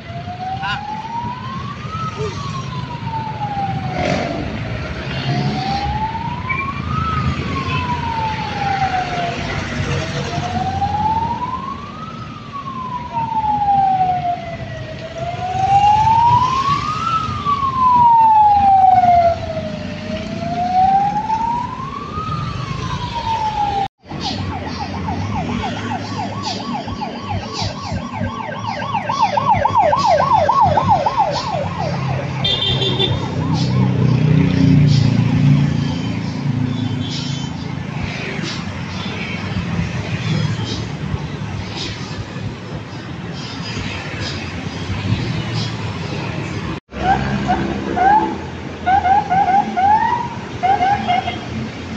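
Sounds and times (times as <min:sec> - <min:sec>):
ambulance siren wailing and yelping: 0:00.0 - 0:42.5, 0:43.2 - 0:51.9
street traffic: 0:00.0 - 0:51.9.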